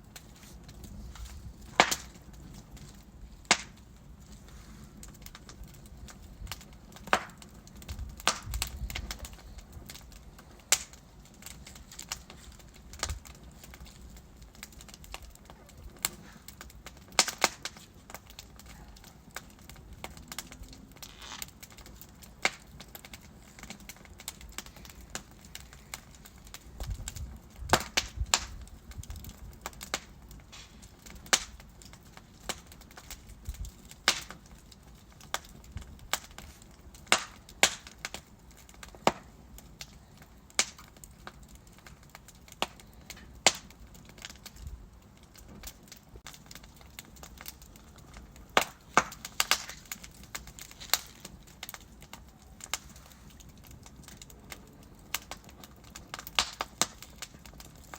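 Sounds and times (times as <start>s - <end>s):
logs crackling and popping: 0.0s - 57.9s.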